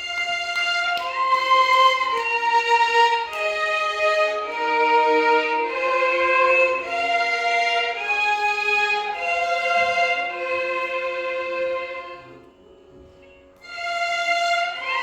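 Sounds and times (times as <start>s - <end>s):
violins playing a melody: 0.0s - 15.0s.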